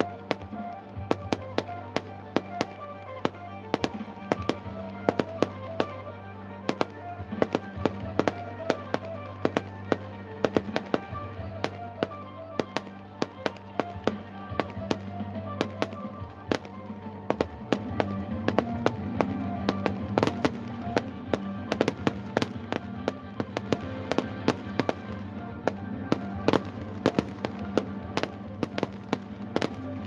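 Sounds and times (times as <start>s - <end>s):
fireworks bangs and cracks: 0.0s - 30.0s
music playing: 0.0s - 30.0s.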